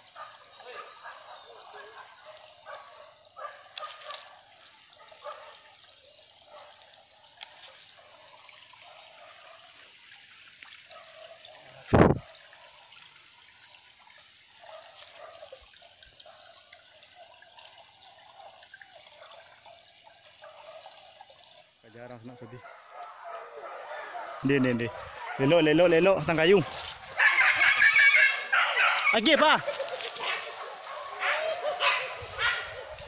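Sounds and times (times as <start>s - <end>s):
stream trickling: 0.0s - 33.0s.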